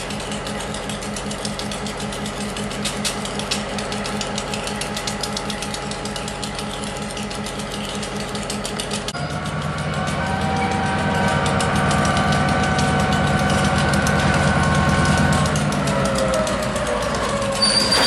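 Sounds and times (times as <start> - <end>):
locomotive diesel engine running: 0.0 - 18.0.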